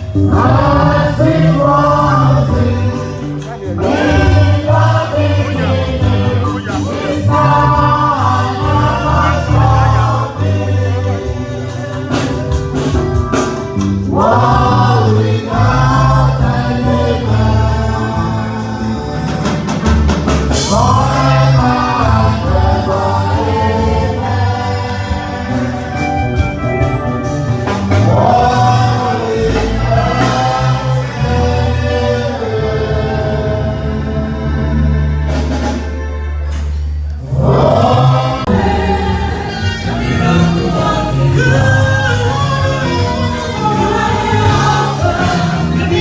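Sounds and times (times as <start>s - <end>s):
bass and drums beat: 0.0s - 46.0s
gospel choir singing: 0.0s - 46.0s.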